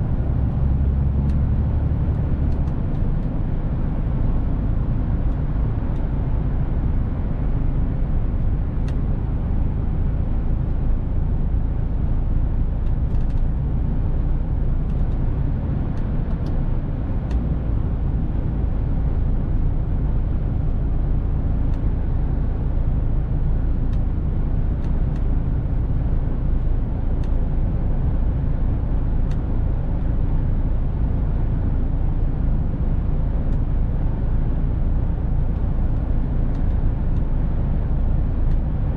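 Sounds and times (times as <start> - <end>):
diesel truck engine rumble: 0.0 - 38.9
road noise: 0.0 - 38.9.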